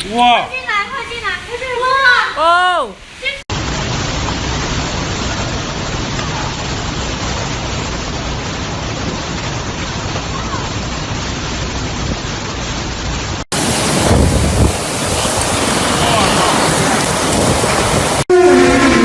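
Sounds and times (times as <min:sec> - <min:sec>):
rain: 0:00.0 - 0:19.0
wind roaring: 0:03.5 - 0:19.0.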